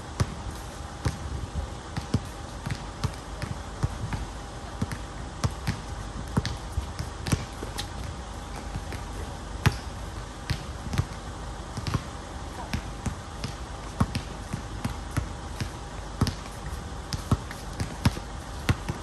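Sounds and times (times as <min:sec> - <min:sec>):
basketball bouncing on court: 0:02.0 - 0:19.0.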